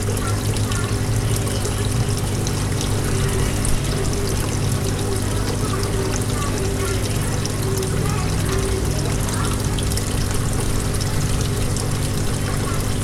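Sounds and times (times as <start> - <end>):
constant low hum: 0.0 - 13.0
water trickling into tub: 0.0 - 13.0.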